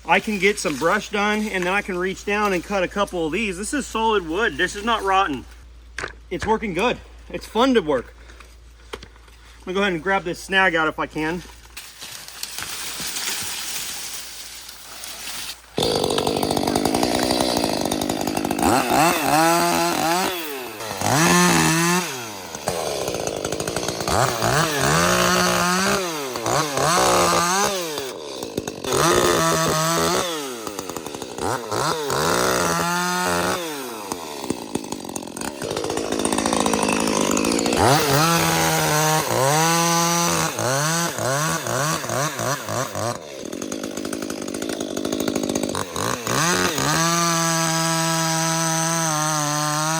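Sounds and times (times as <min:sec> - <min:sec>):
chainsaw revving and cutting: 0:00.1 - 0:05.5, 0:12.3 - 0:49.9.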